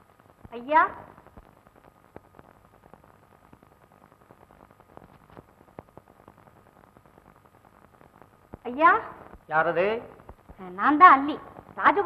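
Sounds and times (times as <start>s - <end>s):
film soundtrack hiss and crackles: 0.0s - 12.0s.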